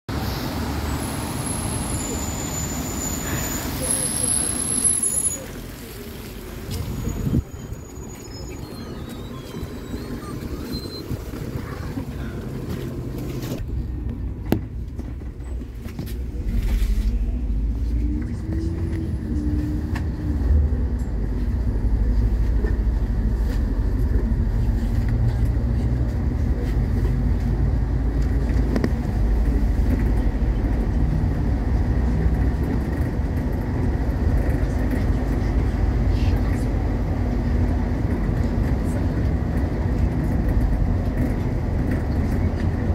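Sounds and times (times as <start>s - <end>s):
road noise: 0.0s - 42.9s
bus engine whine and drone: 0.1s - 5.8s, 6.6s - 42.9s.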